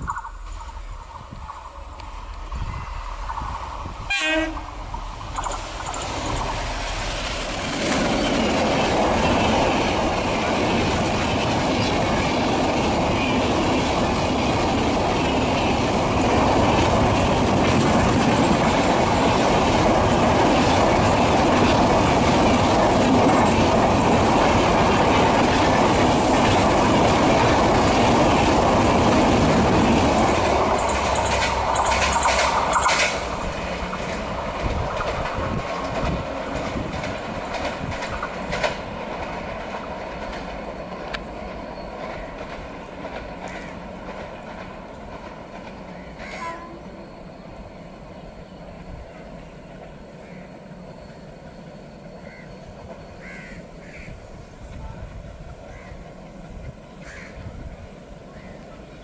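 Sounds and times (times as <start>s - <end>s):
train passing close by: 0.0s - 59.0s
wheels rumbling on rail: 0.0s - 59.0s.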